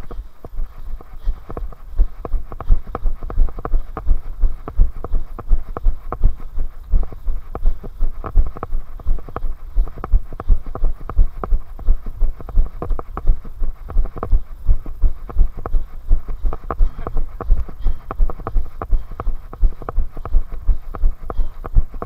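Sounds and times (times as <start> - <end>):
running footsteps on pavement: 0.0 - 22.0.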